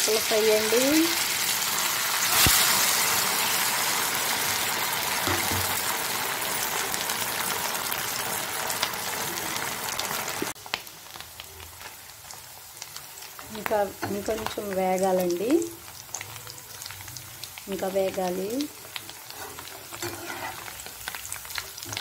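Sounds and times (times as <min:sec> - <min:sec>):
oil sizzling and bubbling: 0:00.0 - 0:22.0.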